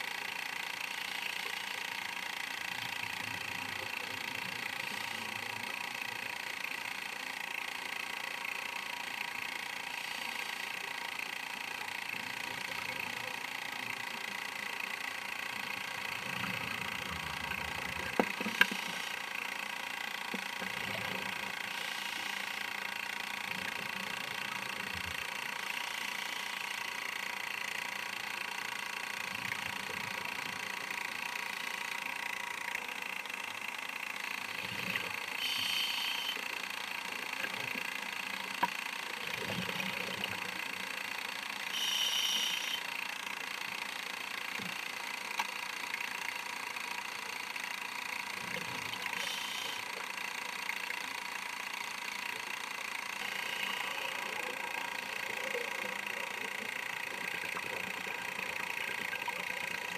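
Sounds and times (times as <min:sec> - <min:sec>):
underwater hiss and hum: 0:00.0 - 0:59.9.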